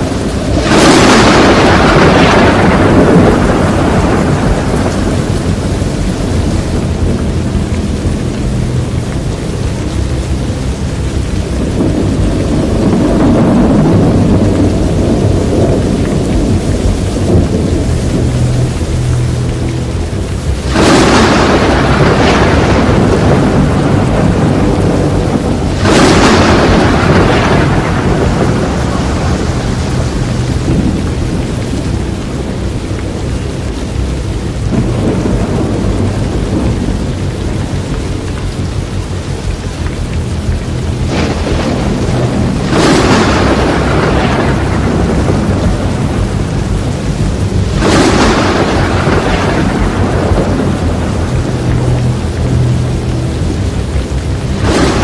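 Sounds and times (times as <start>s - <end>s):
deep rumble: 0.0s - 55.0s
tornado wind roaring: 0.0s - 55.0s.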